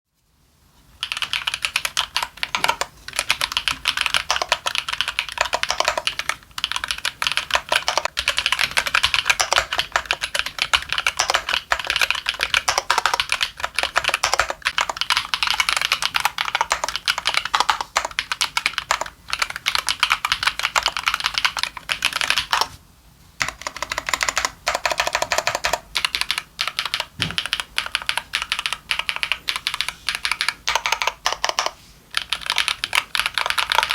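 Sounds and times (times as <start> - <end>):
fast mechanical keyboard typing: 1.0 - 22.8, 23.4 - 33.9.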